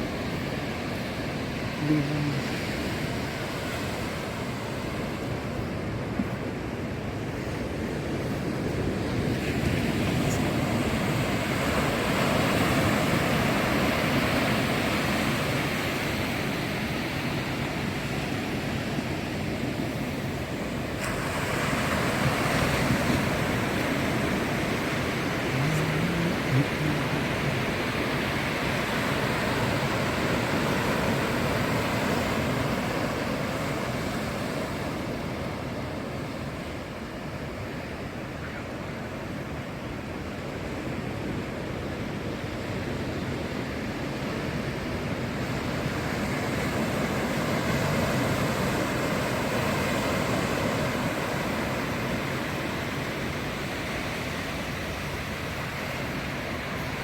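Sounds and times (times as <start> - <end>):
ocean surf breaking: 0.0 - 41.4, 42.4 - 57.0.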